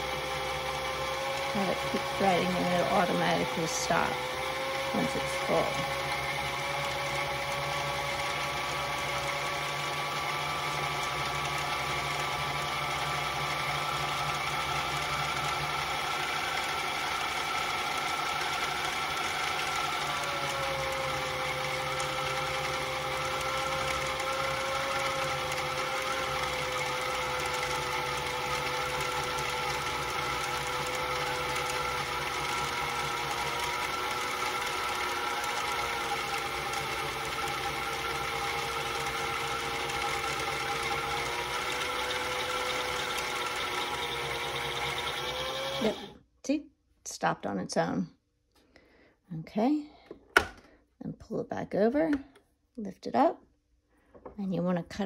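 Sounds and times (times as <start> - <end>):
sewing machine motor running: 0.0 - 46.2.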